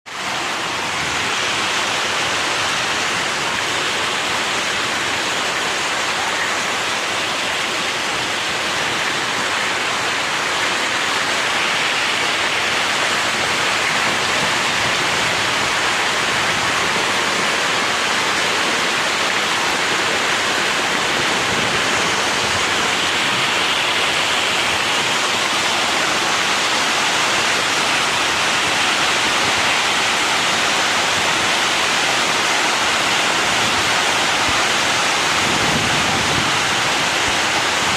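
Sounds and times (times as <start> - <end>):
rushing water: 0.0 - 37.9.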